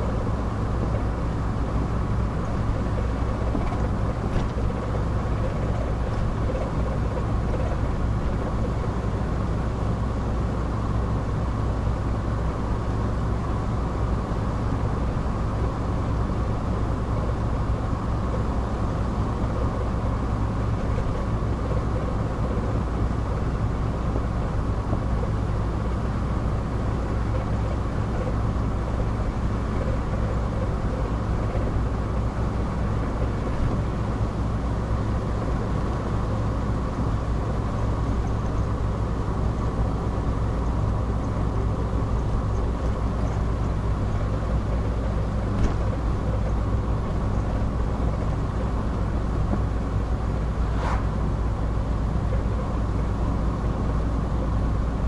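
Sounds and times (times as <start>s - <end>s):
car engine and tyre drone: 0.0s - 55.0s.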